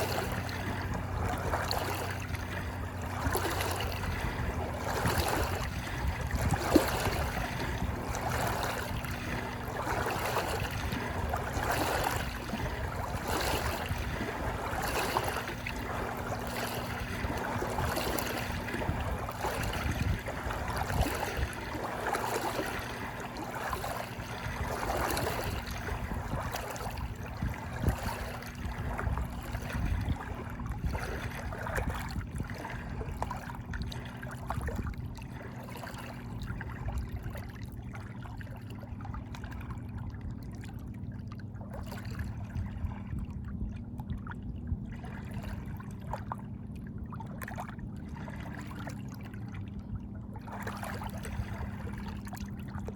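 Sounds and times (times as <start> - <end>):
water lapping and splashing: 0.0 - 52.9.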